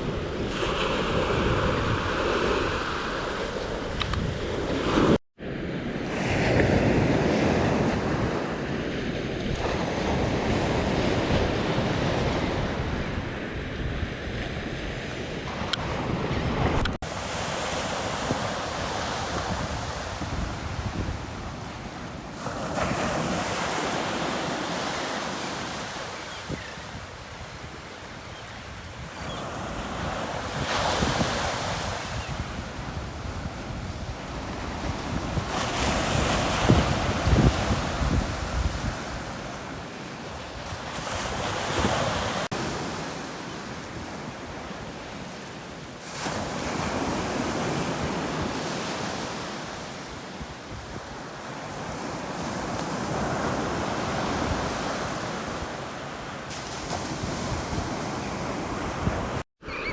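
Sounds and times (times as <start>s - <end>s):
ocean surf breaking on shore: 0.0s - 59.9s.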